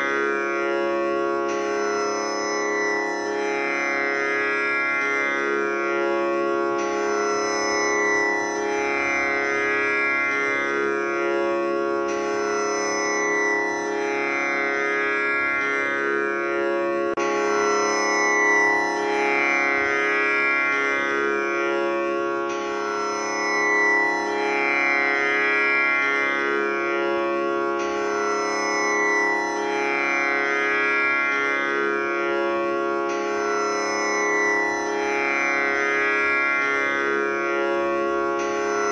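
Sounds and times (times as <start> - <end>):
tanpura drone: 0.0 - 38.9.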